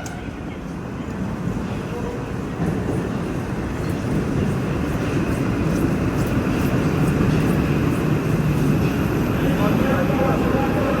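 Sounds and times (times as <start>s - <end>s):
metro train rumble: 0.0s - 11.0s.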